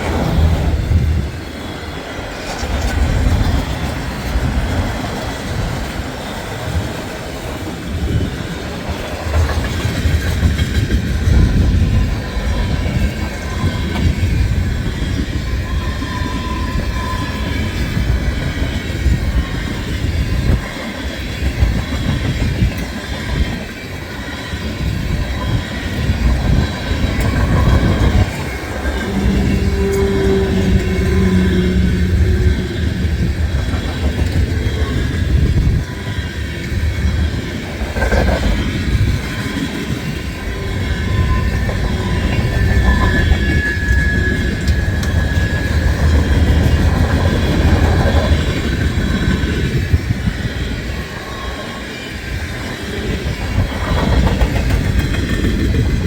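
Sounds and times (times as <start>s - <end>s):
freight train rolling past: 0.0s - 56.0s
wheels squealing: 0.0s - 56.0s.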